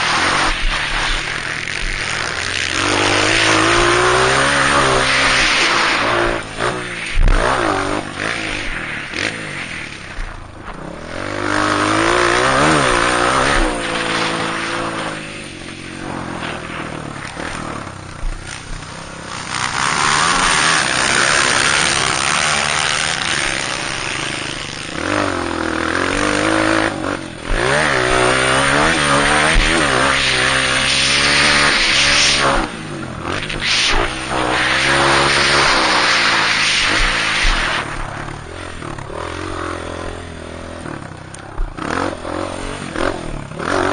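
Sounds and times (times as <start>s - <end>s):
sharp thumps: 0.0s - 25.0s, 26.0s - 43.3s
dirt bike engine revving: 0.0s - 43.9s.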